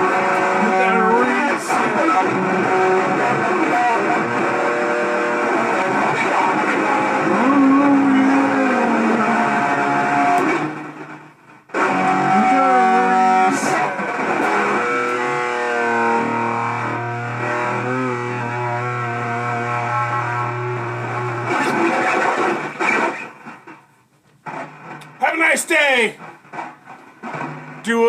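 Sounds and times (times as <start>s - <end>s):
guitar playing ringing notes: 0.0s - 11.2s, 11.8s - 23.5s.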